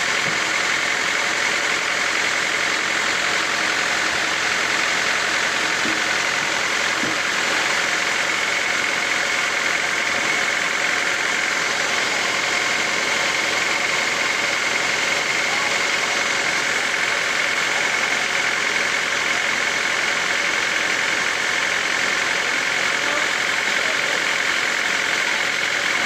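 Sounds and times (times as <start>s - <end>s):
high mechanical whine: 0.0s - 26.0s
sawmill machinery drone: 0.0s - 26.0s.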